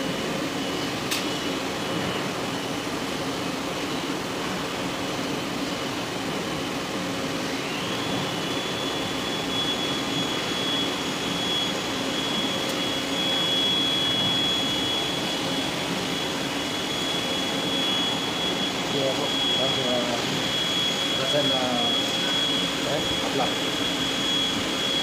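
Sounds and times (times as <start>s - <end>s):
high motor whine: 0.0s - 25.0s
steady machinery noise: 0.0s - 25.0s.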